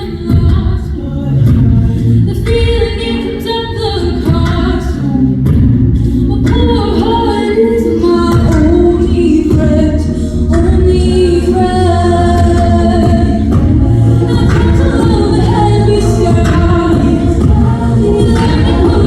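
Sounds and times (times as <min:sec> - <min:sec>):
group singing in harmony: 0:00.0 - 0:19.0.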